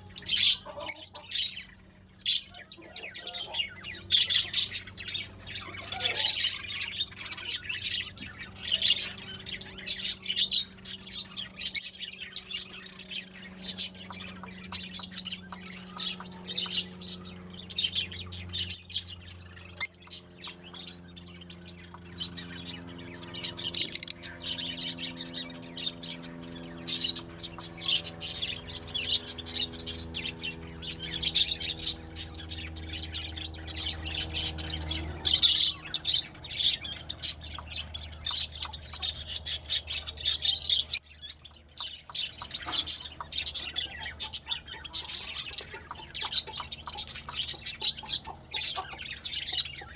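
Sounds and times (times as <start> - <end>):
lovebirds chirping and squawking: 0.0 - 49.9
steady low hum: 0.0 - 49.9.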